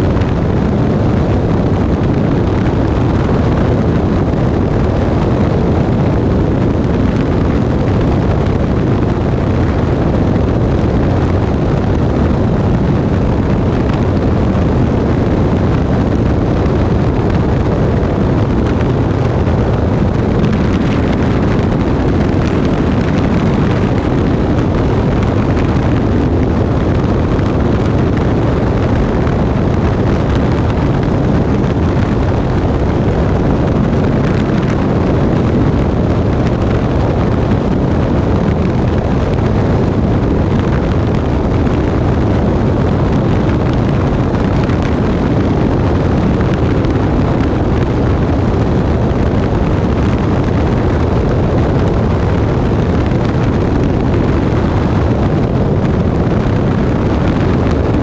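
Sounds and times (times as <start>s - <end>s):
aeroplane engine drone: 0.0s - 58.0s.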